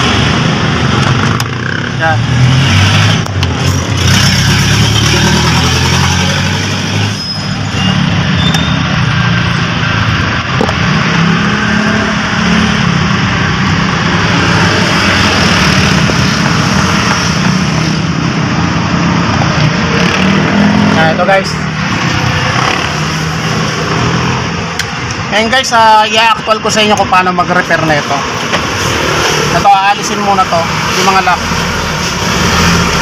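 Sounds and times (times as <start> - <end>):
traffic engines running: 0.0 - 33.0.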